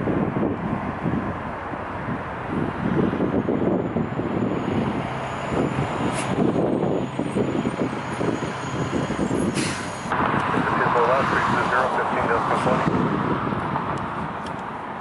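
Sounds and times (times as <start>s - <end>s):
wind on microphone: 0.0s - 15.0s
jet engines rumbling: 2.4s - 14.6s.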